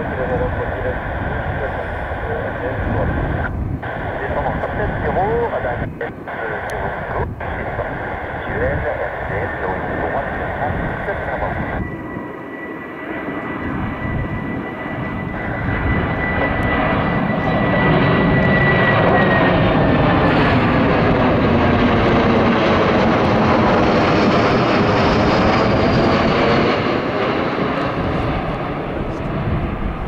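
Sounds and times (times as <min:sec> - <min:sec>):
jet aircraft flying overhead: 0:00.0 - 0:30.0.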